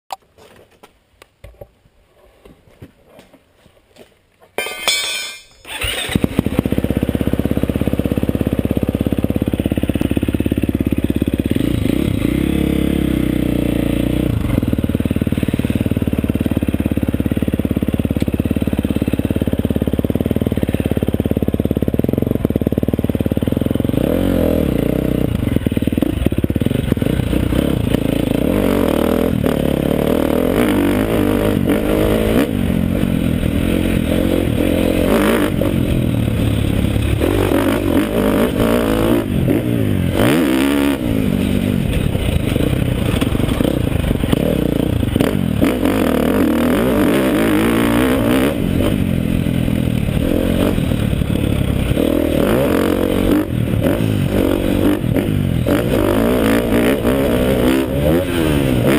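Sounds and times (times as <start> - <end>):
motorcycle engine revving: 4.7 - 58.9.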